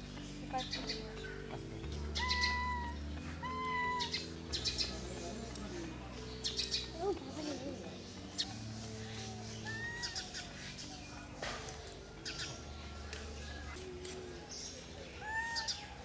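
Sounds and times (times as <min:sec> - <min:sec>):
birds chirping: 0:00.0 - 0:16.0
soft music with low notes: 0:00.0 - 0:16.0.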